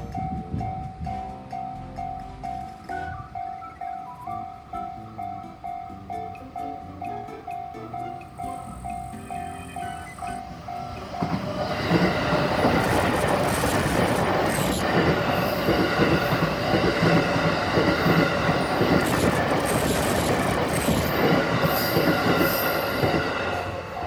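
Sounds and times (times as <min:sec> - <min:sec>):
train wheels rumbling and clattering: 0:00.0 - 0:07.3, 0:09.3 - 0:24.0
two-tone crossing bell: 0:00.0 - 0:23.8.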